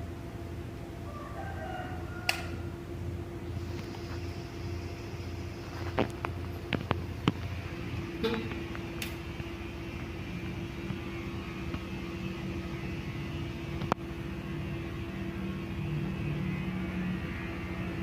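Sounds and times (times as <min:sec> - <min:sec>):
ceiling fan motor hum: 0:00.0 - 0:18.0.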